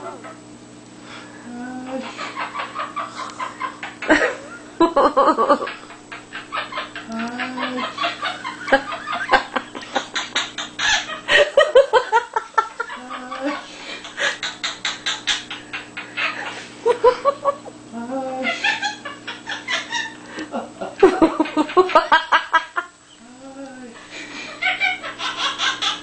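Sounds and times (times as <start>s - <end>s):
parrot imitating laughter: 1.8s - 23.0s, 23.9s - 26.0s.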